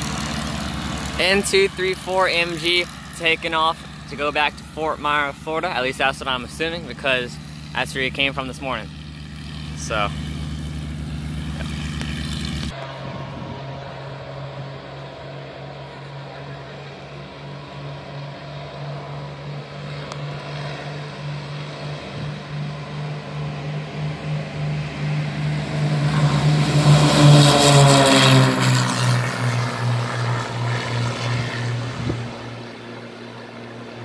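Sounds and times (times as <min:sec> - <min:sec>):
propeller airplane drone: 0:00.0 - 0:34.0.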